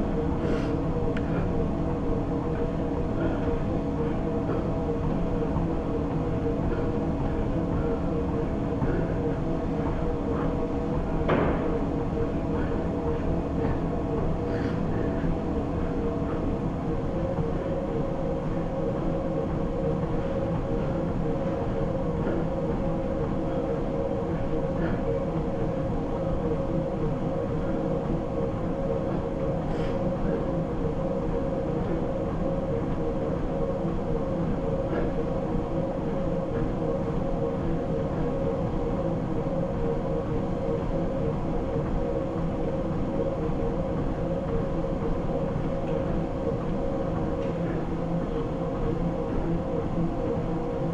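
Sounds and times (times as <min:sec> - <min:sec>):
treadmill belt rumble: 0:00.0 - 0:50.9
treadmill motor whine: 0:00.0 - 0:50.9.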